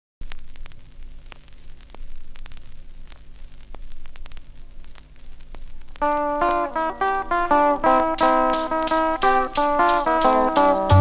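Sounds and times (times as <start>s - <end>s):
crackling clicks: 0.2s - 11.0s
electrical mains hum: 0.2s - 11.0s.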